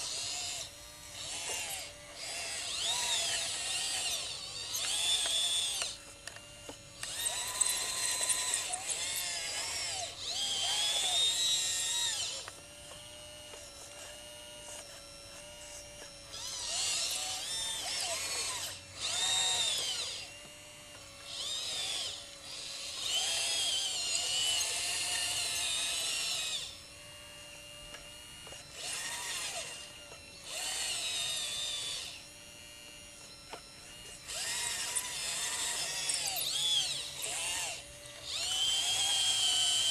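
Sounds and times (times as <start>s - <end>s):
model loader motors whining: 0.0s - 39.9s.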